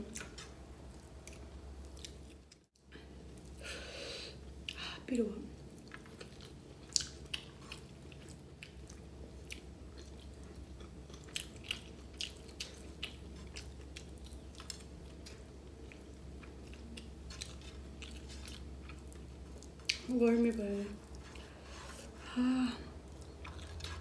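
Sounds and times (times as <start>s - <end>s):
person chewing food: 0.1s - 3.7s, 5.6s - 24.0s.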